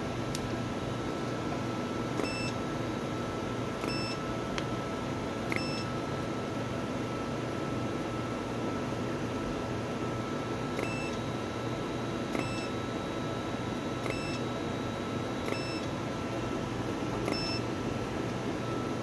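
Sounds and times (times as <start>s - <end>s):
cooling fans whirring: 0.0s - 19.0s.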